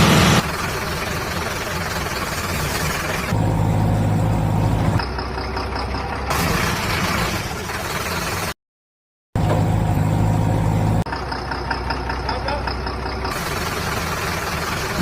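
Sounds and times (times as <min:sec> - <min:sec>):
engine running: 0:00.0 - 0:08.6, 0:09.4 - 0:15.0.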